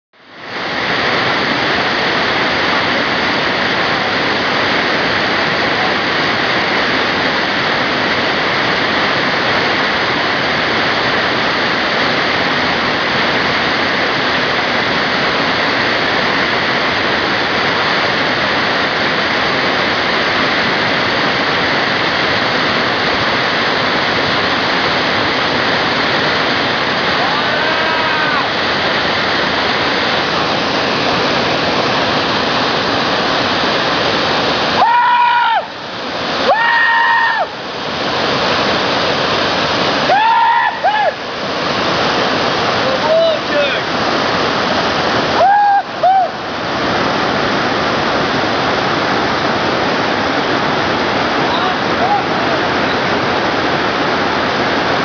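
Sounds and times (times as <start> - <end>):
waterfall rushing: 0.2 - 55.0.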